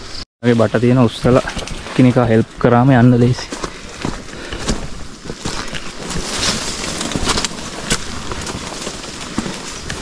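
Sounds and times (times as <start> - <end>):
footsteps through undergrowth: 0.6 - 10.0
twigs and leaves crackling underfoot: 0.6 - 10.0.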